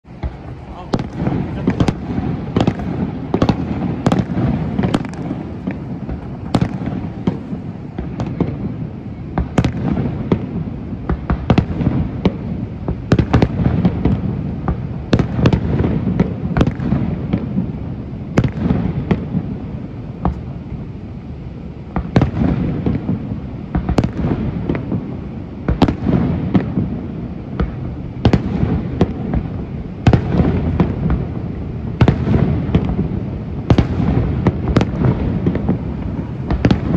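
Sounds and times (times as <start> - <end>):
continuous low rumble: 0.0 - 36.9
fireworks bangs and crackling: 0.0 - 36.9.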